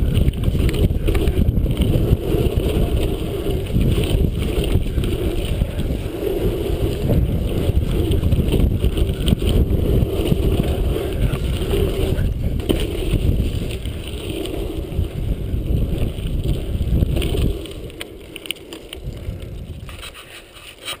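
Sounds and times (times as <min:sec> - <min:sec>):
bike tyres rolling on dirt: 0:00.0 - 0:21.0
wind rumbling on microphone: 0:00.0 - 0:21.0.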